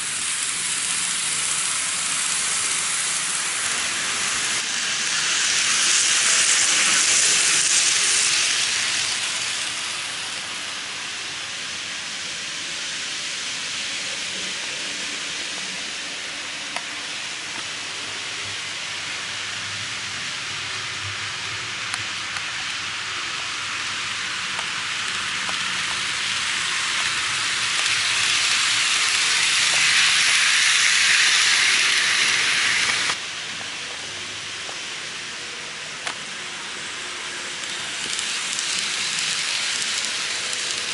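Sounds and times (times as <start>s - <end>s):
model train wheels rattling on rails: 0.0s - 40.9s.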